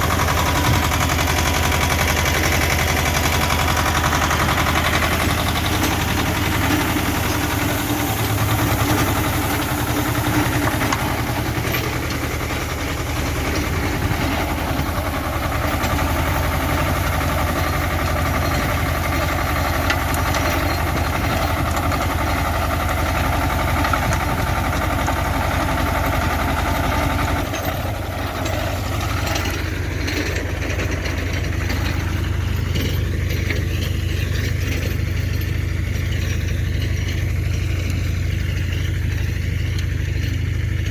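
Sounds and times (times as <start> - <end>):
rotary tiller churning soil: 0.0 - 40.9
tractor diesel engine running: 0.0 - 40.9.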